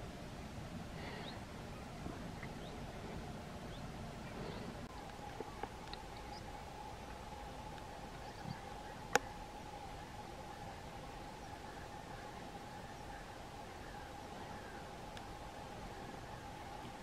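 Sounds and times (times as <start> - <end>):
faint steady hum: 0.0 - 17.0
faint bird chirps: 1.0 - 17.0.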